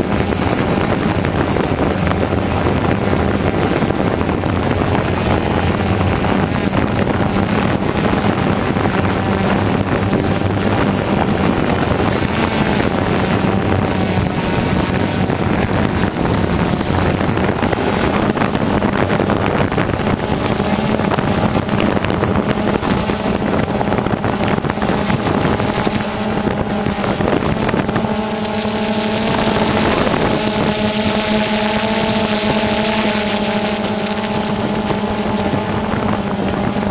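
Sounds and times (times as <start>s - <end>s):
drone motors humming and whining: 0.0s - 36.9s
wind noise: 0.0s - 36.9s.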